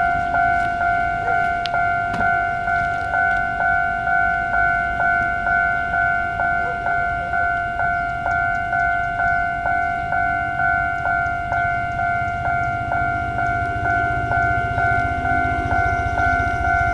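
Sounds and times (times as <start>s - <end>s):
level crossing warning bell: 0.0s - 16.9s.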